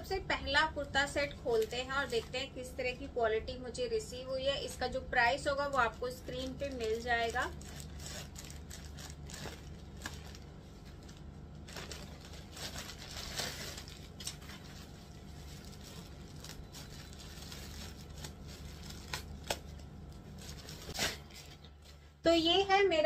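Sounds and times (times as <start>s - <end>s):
plastic packaging crinkling: 0.1s - 3.1s, 4.2s - 22.2s.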